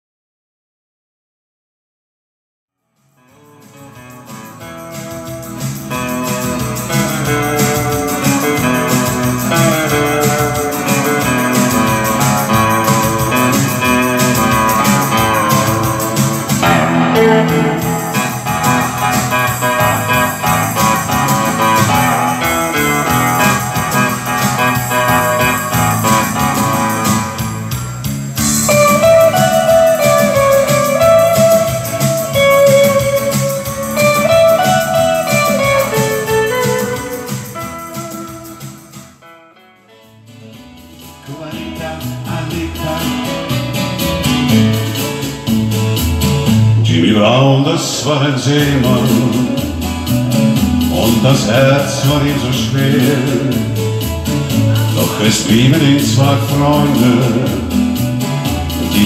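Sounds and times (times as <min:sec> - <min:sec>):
electric guitar and keyboard music: 0:03.0 - 0:59.0.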